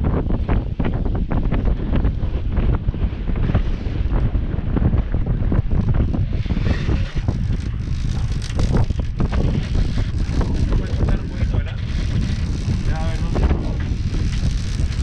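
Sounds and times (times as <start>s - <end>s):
choppy sea wash: 0.0s - 15.0s
wind buffeting microphone: 0.0s - 15.0s.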